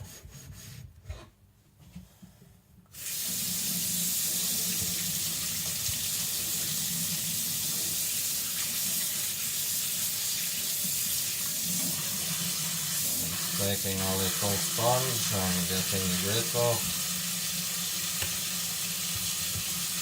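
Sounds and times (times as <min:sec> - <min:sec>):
water running from a tap: 0:02.9 - 0:20.0.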